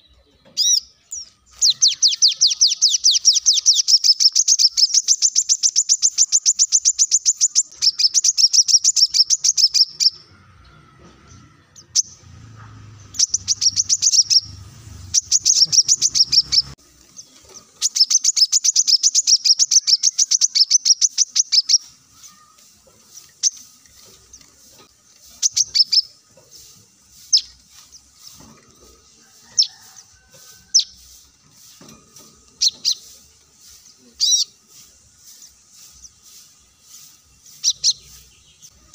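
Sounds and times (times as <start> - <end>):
bird singing high sharp trills: 0.0 - 12.3, 13.0 - 28.4, 32.6 - 38.9
bird chirps: 0.0 - 38.9.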